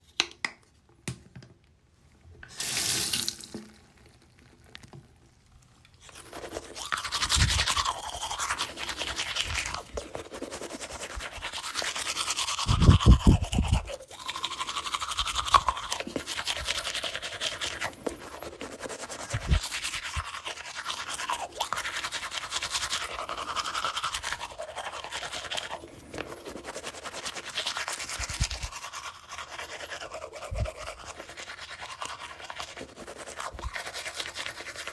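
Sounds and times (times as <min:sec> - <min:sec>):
toothbrush scrubbing teeth: 0:06.0 - 0:34.9.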